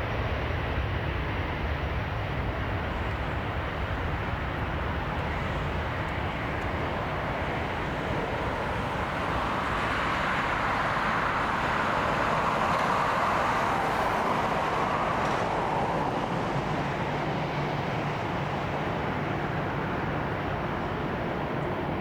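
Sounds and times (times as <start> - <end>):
jet airliner engines rushing: 0.0 - 22.0.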